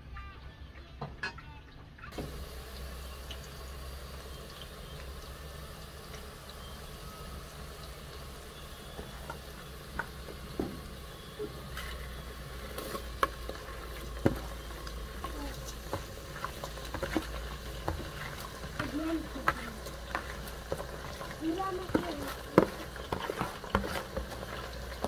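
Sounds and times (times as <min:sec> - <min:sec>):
pot simmering: 0:02.1 - 0:25.0.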